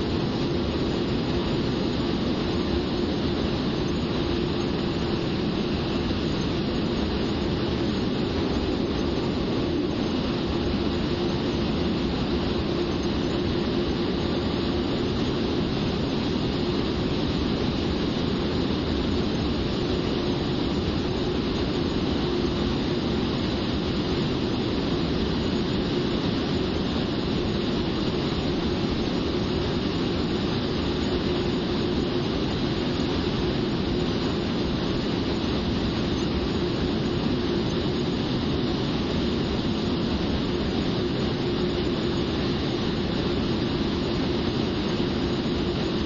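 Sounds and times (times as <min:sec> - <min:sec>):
faint steady hum: 0:00.0 - 0:46.0
jet engine roar and rushing air: 0:00.0 - 0:46.0.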